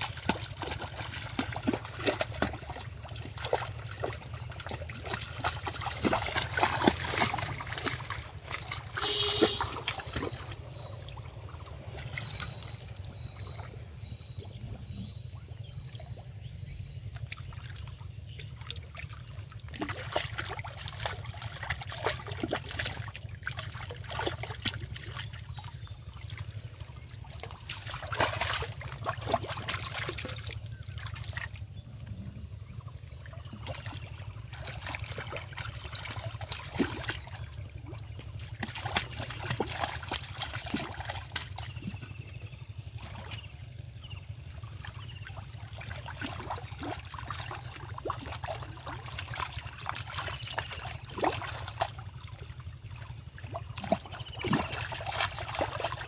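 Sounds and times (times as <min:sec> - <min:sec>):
hands splashing in muddy water: 0:00.0 - 0:14.2, 0:16.0 - 0:31.6, 0:33.2 - 0:43.7, 0:44.5 - 0:56.0
low hum: 0:00.0 - 0:56.0.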